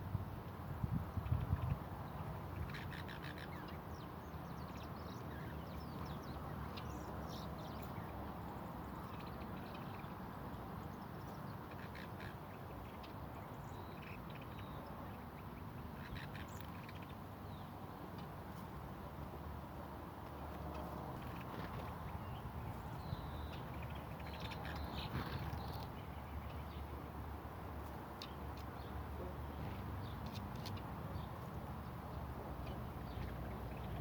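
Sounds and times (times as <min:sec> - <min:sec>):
low background noise: 0:00.0 - 0:34.0
garden birds calling: 0:01.2 - 0:18.7, 0:20.2 - 0:34.0.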